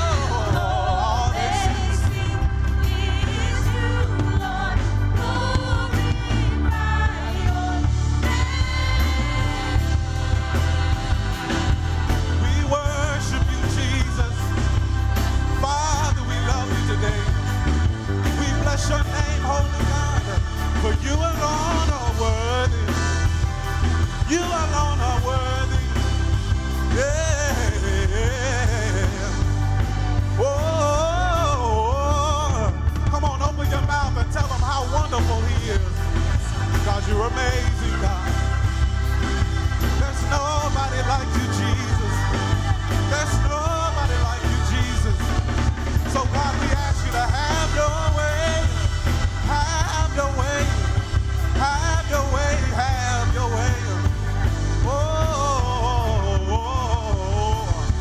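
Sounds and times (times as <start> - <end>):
band with heavy bass: 0.0 - 58.0
person singing gospel melody: 0.0 - 58.0.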